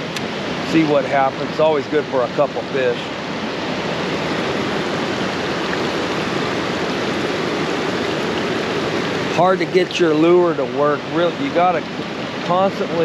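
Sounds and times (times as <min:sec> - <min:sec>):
fast-flowing river current: 0:00.0 - 0:13.0.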